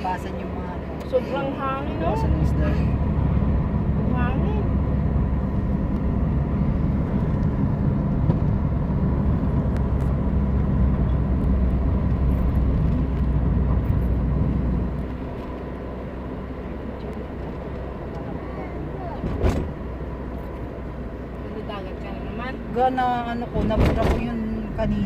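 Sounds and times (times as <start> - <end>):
car travelling rumble: 0.0 - 25.0
road noise: 0.0 - 25.0
wind: 0.0 - 25.0.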